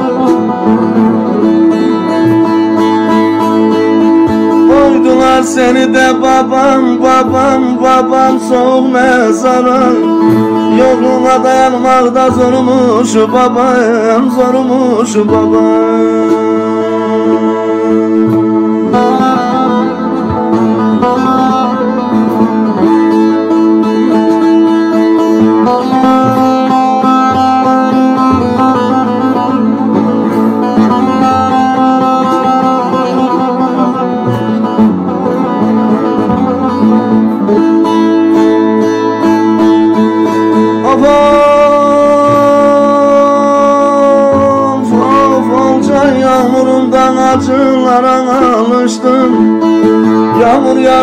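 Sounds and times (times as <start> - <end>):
plucked long-necked lute: 0.0 - 51.0.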